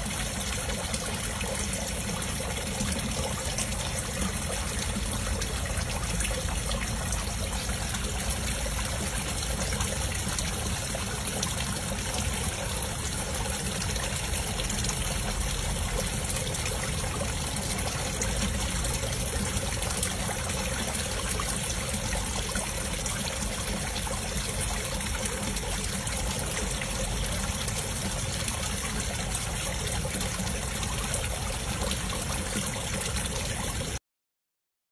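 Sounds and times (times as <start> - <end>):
water trickling into a pond: 0.0 - 34.0.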